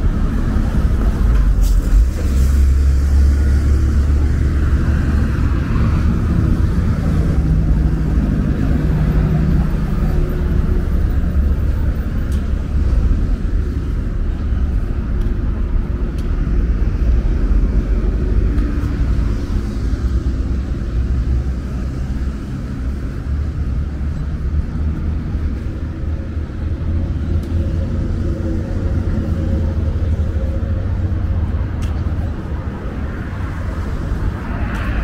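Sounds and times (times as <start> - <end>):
passing cars rumbling: 0.0 - 35.0.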